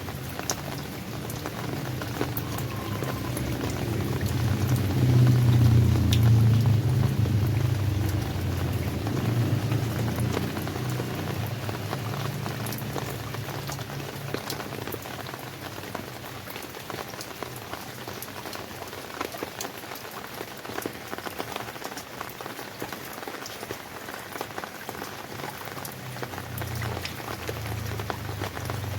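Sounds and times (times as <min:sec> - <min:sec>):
rain falling: 0:00.0 - 0:28.9
raindrops tapping: 0:00.0 - 0:28.9.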